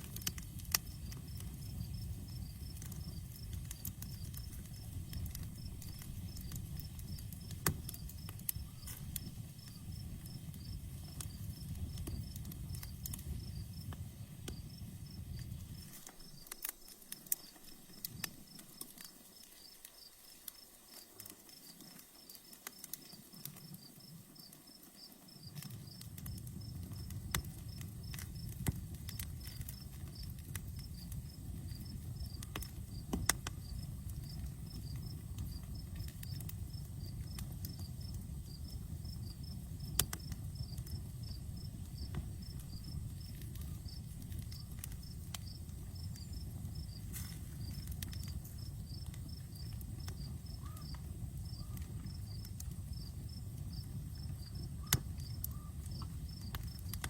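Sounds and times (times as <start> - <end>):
crickets chirping: 0.0 - 56.9
campfire crackling and popping: 0.0 - 57.0.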